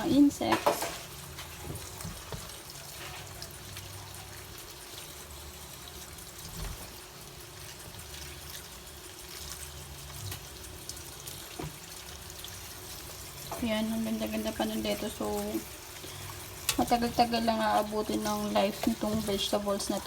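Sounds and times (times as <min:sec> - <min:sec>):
water running from a tap: 0:00.0 - 0:20.0.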